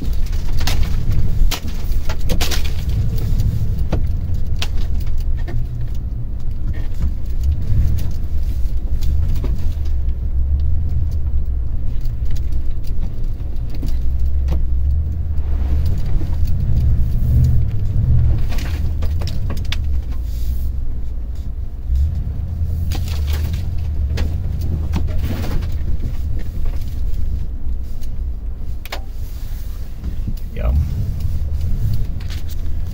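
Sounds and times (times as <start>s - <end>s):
truck rattles and knocks: 0.0s - 21.0s, 21.6s - 27.6s
rumble of engine and tyres: 0.0s - 32.9s.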